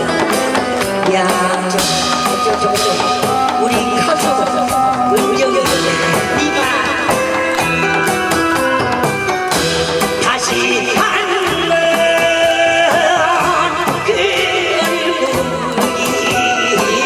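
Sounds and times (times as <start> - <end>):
person singing through a pa: 0.0 - 9.0, 10.1 - 17.0
electronic keyboard: 0.0 - 17.0
steady drum beat: 0.0 - 17.0.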